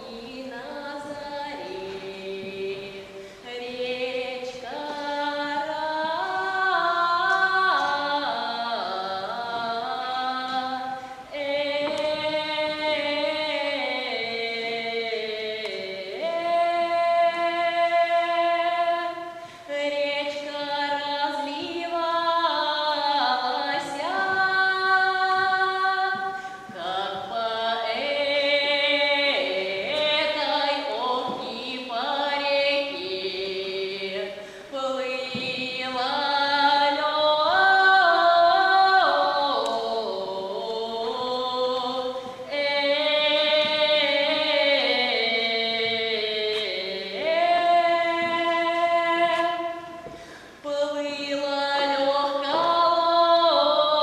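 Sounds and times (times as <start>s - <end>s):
children's choir singing folk song: 0.0s - 54.0s
girl singing: 0.0s - 54.0s.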